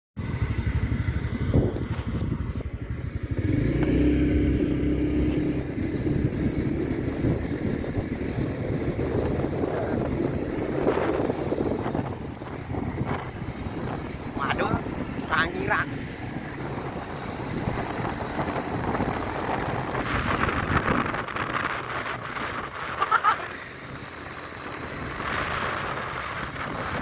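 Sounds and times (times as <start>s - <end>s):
small engine pulsing: 0.2s - 27.0s.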